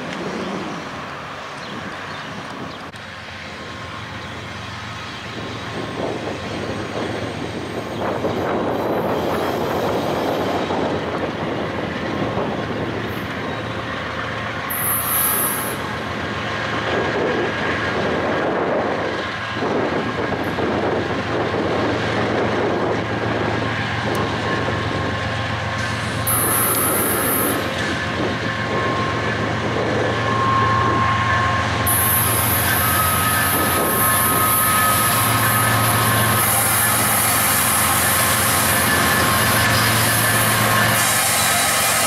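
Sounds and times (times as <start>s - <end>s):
diesel locomotive engine running: 0.0s - 42.0s
train wheels rolling on rails: 0.0s - 42.0s.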